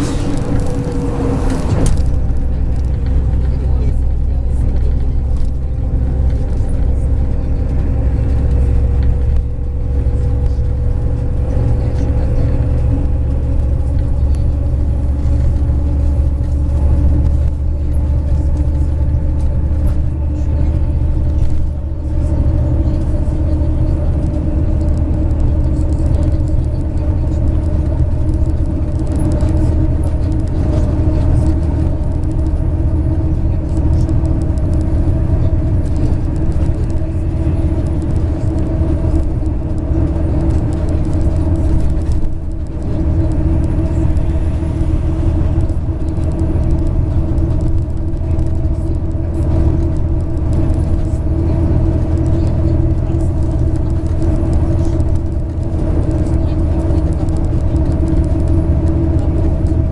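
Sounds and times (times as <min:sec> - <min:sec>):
bus engine and road rumble: 0:00.0 - 0:59.9
humming whine: 0:00.0 - 0:59.9.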